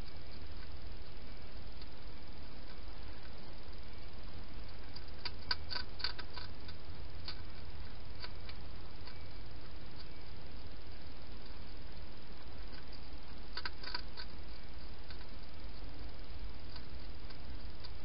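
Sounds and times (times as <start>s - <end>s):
hedgehog crunching dry food: 0.0s - 18.0s
steady low hum: 0.0s - 18.0s.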